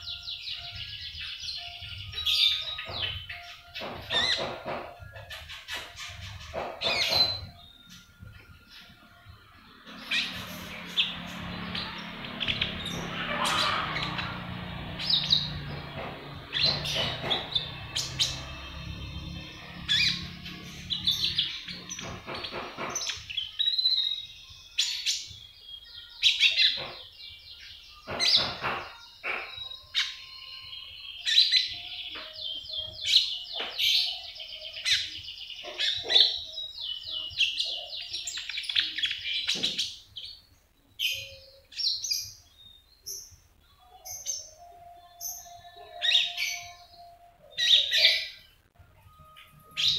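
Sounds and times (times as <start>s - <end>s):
songbird chirping and trilling: 0.0s - 49.9s.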